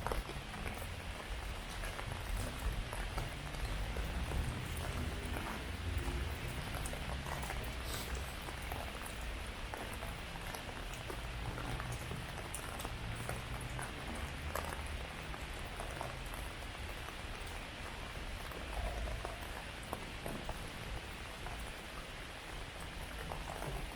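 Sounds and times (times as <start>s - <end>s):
heavy rain hiss: 0.0s - 23.9s.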